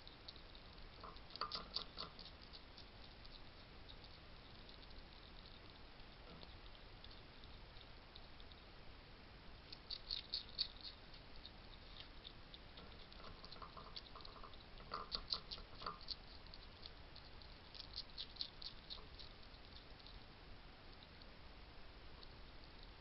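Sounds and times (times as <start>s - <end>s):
hedgehogs clicking and crunching: 0.0s - 8.7s, 9.7s - 20.3s
steady low hiss: 0.0s - 23.0s.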